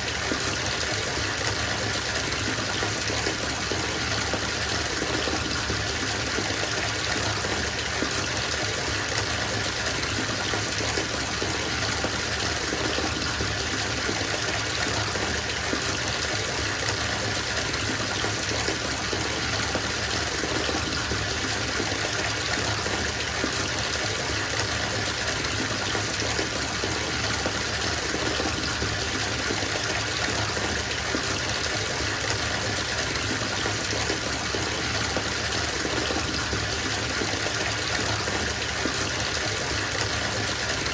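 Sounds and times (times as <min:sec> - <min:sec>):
tap water running into bathtub: 0:00.0 - 0:40.9.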